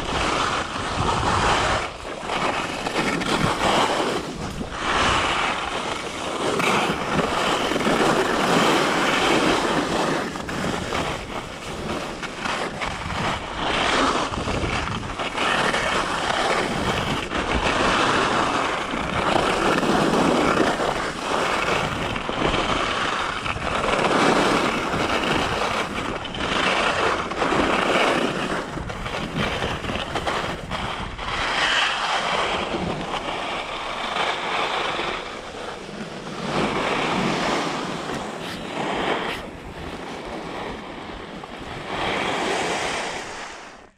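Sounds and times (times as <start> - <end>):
skis scraping across snow: 0.0 - 43.9
wind buffeting microphone: 0.0 - 43.9.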